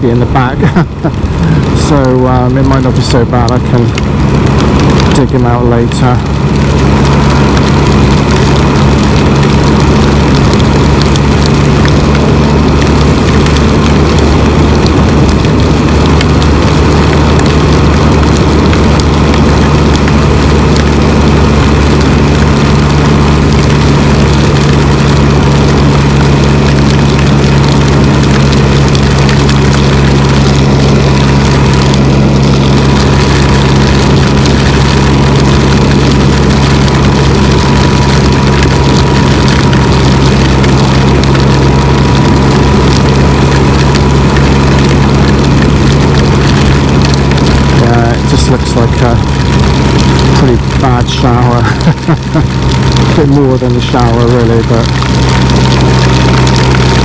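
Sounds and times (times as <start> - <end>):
motorcycle engine droning: 0.0 - 57.0
wind and road noise: 0.0 - 57.0.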